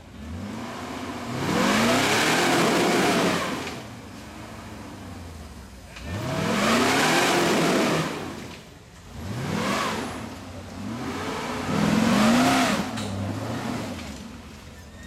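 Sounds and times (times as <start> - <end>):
car engine revving hard: 0.0 - 5.3, 6.0 - 14.5.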